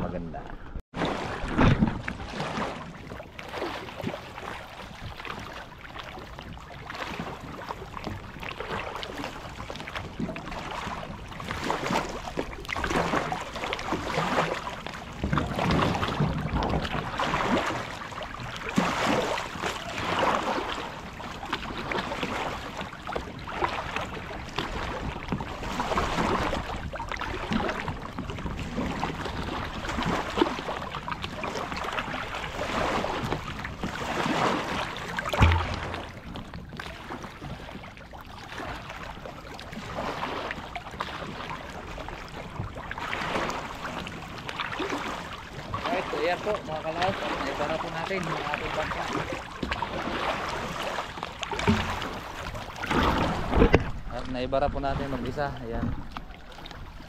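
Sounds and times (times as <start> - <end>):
water splashing against boat hull: 0.0 - 57.0.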